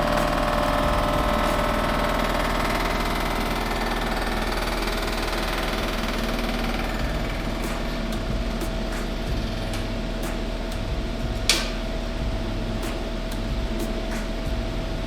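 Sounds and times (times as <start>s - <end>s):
machine humming with held tones: 0.0s - 15.0s.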